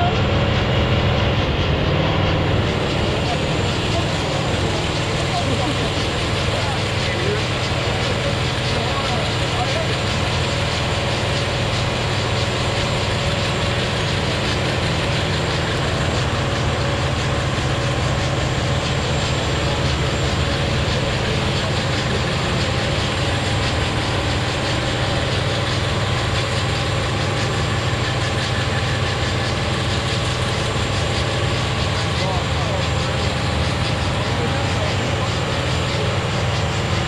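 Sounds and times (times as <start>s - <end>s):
truck diesel engine running loudly: 0.0s - 37.0s.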